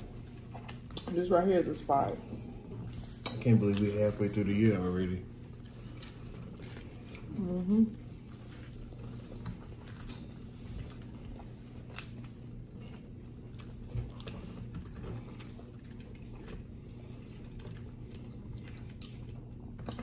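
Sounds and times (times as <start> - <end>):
chewing and biting food: 0.0 - 1.2, 2.0 - 20.0
steady low hum: 0.0 - 20.0.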